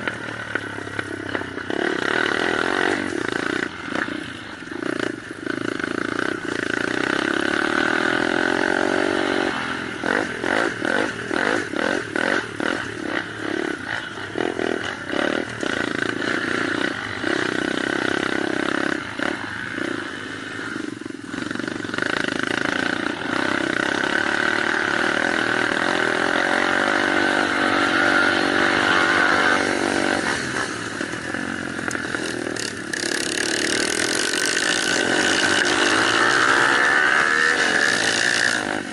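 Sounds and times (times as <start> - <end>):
off-road motorcycle engines revving: 0.0 - 38.9.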